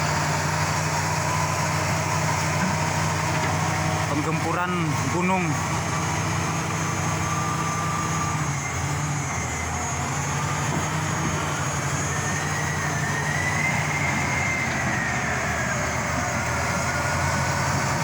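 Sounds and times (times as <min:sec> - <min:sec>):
heavy engine running: 0:00.0 - 0:18.0.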